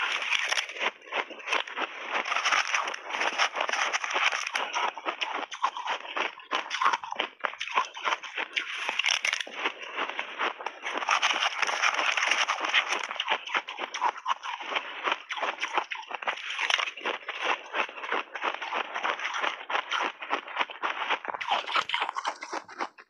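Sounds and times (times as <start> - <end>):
ice chunks crunching: 0.0 - 23.0.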